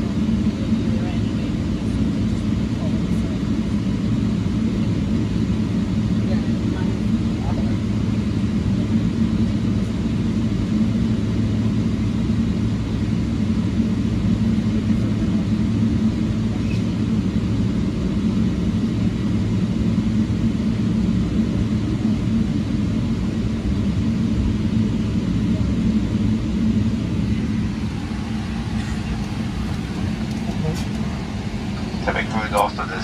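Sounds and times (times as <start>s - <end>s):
airliner cabin rumble: 0.0s - 33.0s.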